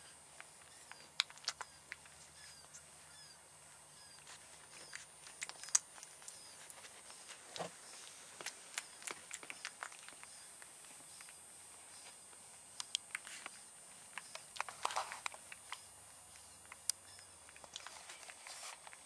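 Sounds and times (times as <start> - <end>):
puppies squeaking: 0.0 - 12.2, 13.1 - 18.8.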